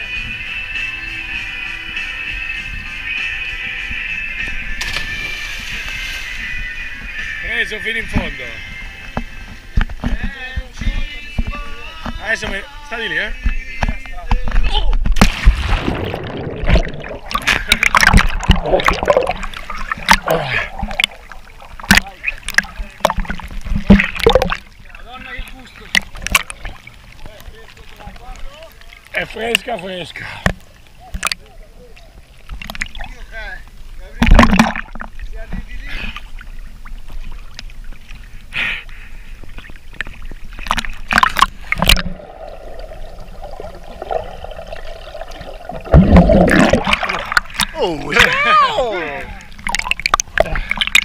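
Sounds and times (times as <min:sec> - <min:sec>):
water splashing and gurgling: 0:02.4 - 0:08.4, 0:14.1 - 0:51.0.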